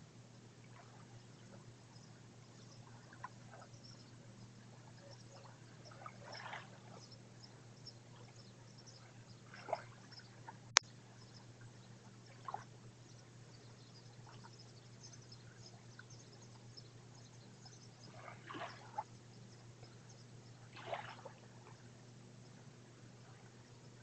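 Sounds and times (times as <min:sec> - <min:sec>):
steady low hum: 0:00.0 - 0:24.0
small waves lapping on shore: 0:00.6 - 0:24.0.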